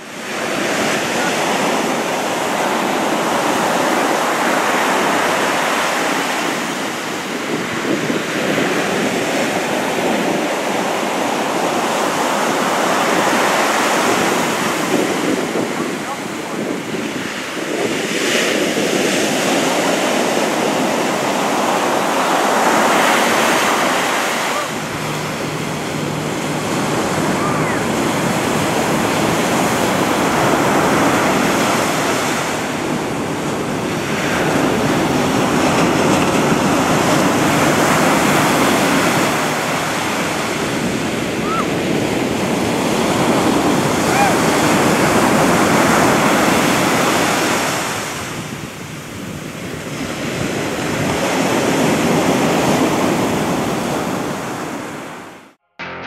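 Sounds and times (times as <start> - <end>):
ocean waves breaking: 0.0 - 55.6.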